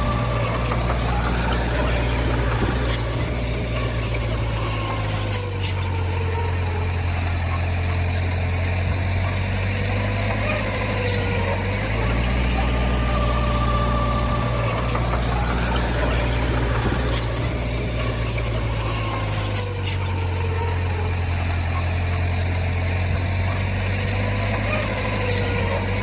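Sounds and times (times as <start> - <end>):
heavy diesel engine humming: 0.0 - 26.0.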